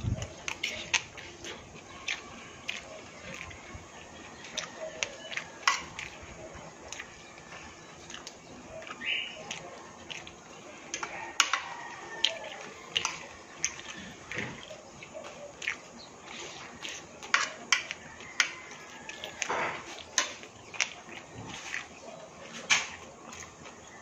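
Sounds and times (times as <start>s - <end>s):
wet chewing and lip smacks: 0.2s - 7.2s, 8.0s - 23.9s.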